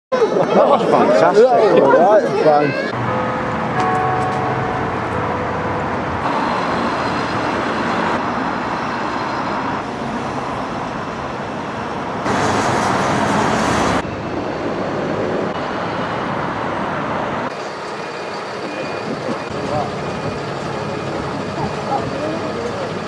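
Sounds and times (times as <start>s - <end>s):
passing cars and buses: 0.1s - 23.0s.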